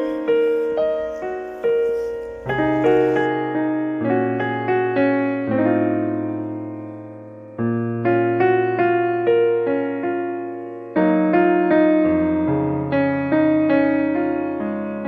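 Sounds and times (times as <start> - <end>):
solo piano chords: 0.0 - 15.0.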